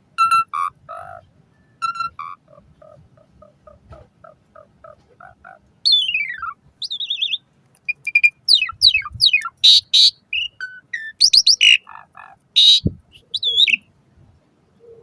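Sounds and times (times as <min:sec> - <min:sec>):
harsh bird calls: 0:00.2 - 0:13.9
starling singing: 0:00.2 - 0:13.9.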